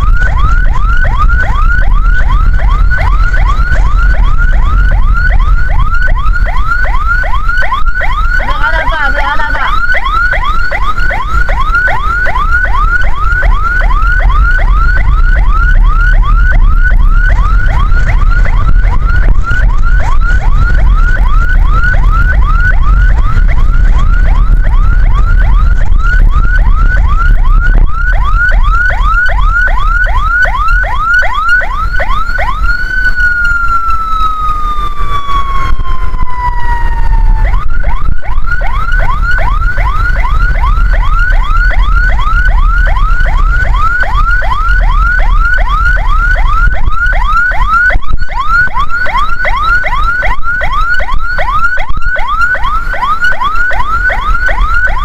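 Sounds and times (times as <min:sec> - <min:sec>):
ambulance siren yelping: 0:00.0 - 0:55.0
low rumble: 0:00.0 - 0:55.0.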